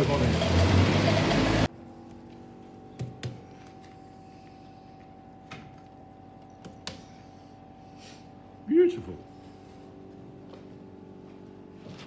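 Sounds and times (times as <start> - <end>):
faint steady hum: 1.7 - 12.0.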